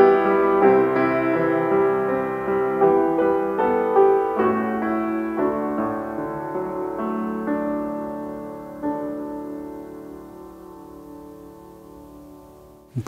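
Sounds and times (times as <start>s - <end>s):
piano chords ringing: 0.0s - 13.0s.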